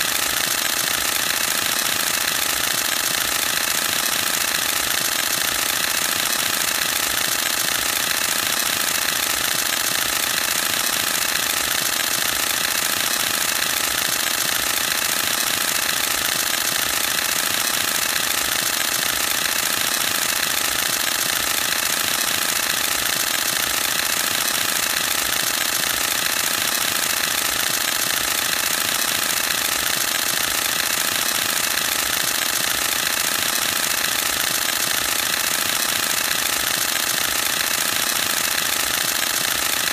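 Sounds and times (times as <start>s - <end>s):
camera shutter burst: 0.0s - 39.9s.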